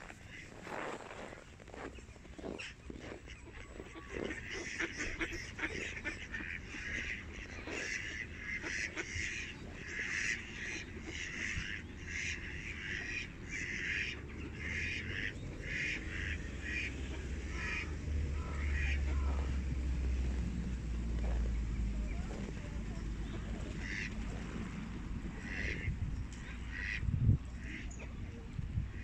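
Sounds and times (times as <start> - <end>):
ducks quacking: 0.0 - 29.0.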